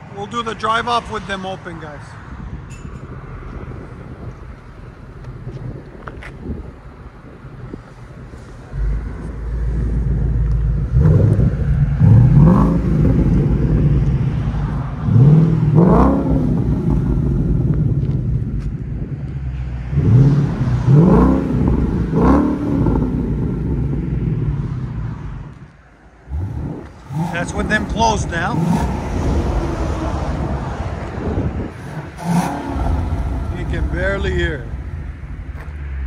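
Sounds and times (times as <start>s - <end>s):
car engine revving: 3.0s - 36.0s.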